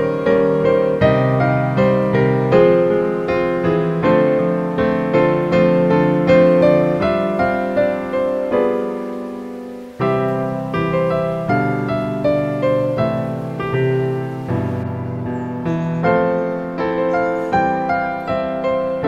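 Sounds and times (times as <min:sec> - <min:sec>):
piano playing evenly paced notes: 0:00.0 - 0:19.0.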